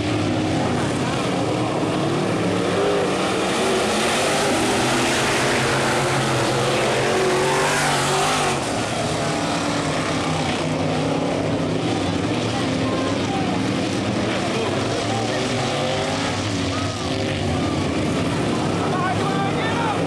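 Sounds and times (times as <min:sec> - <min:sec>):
race car engines racing: 0:00.0 - 0:20.0.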